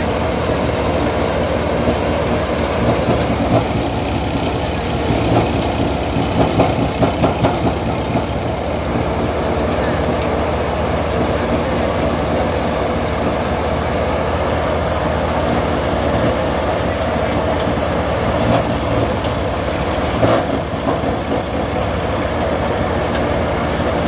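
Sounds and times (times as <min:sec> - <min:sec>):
threshing machine drone: 0:00.0 - 0:24.0.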